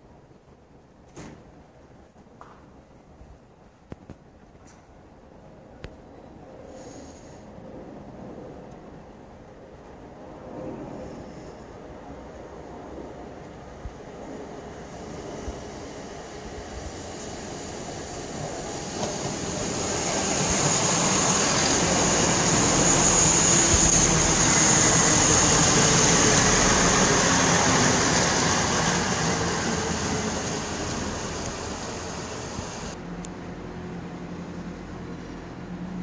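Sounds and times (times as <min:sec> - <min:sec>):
train passing: 0:05.4 - 0:36.0.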